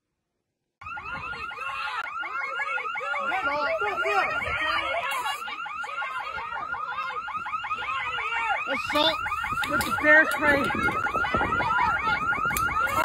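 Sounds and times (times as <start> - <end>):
warbling electronic alarm: 0.8 - 13.0.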